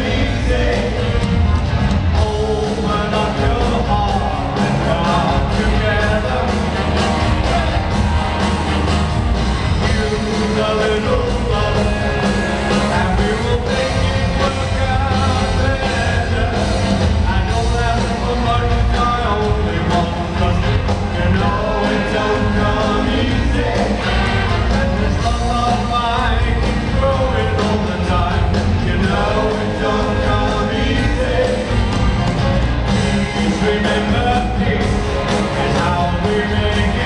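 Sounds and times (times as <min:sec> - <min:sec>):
man singing lead vocal: 0:00.0 - 0:08.0, 0:09.8 - 0:32.0, 0:32.8 - 0:37.0
live rock band: 0:00.0 - 0:37.0.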